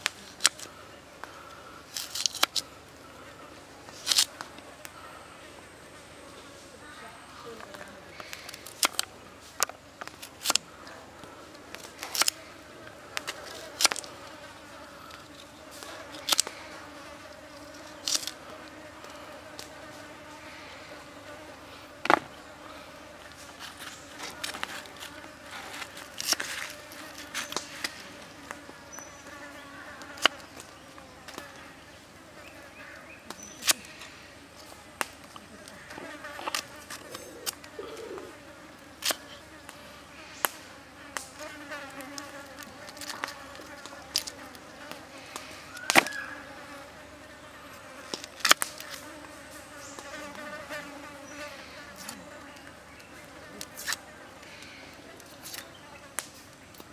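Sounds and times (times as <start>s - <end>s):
insects buzzing: 0.0s - 56.9s.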